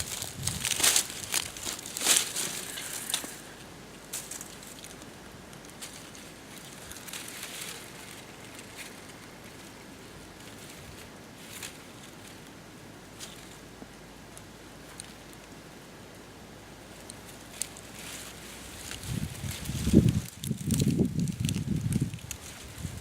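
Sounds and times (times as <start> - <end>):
stiff leaves rustling and crunching: 0.0 - 15.9, 16.5 - 23.0.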